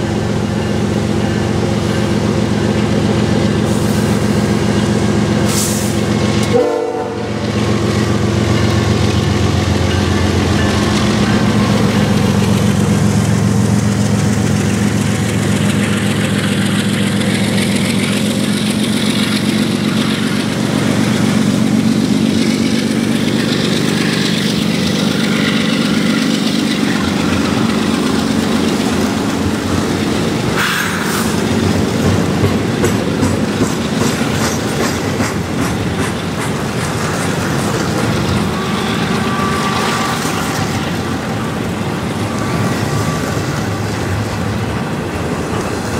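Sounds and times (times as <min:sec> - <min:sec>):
diesel locomotive engine: 0:00.0 - 0:45.9
train wheels clattering on rails: 0:00.0 - 0:45.9.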